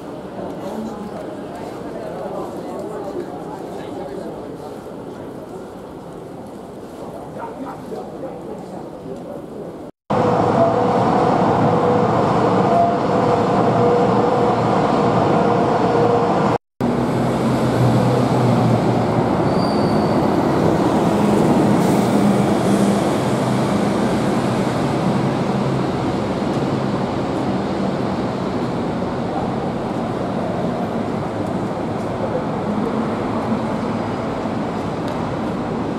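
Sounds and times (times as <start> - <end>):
metro train rumbling: 0.0 - 35.9.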